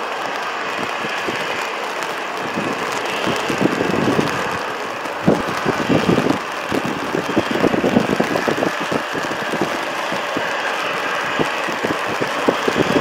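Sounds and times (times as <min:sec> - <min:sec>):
jet engines hissing: 0:00.0 - 0:13.0
wind buffeting microphone: 0:00.0 - 0:13.0.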